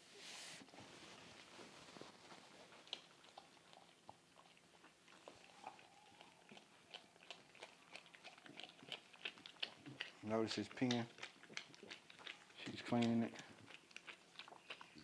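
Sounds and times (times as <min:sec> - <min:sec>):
dog licking wetly: 0:02.3 - 0:15.0.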